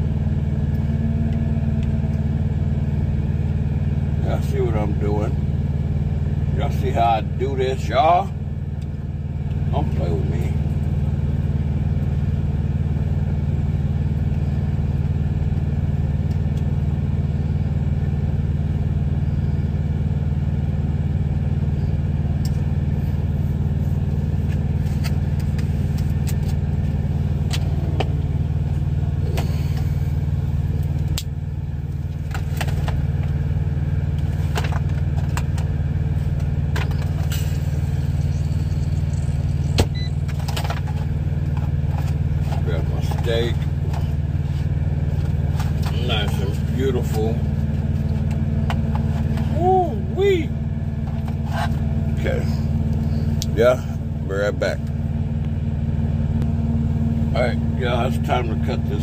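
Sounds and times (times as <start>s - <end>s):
idling engine drone: 0.0s - 59.0s.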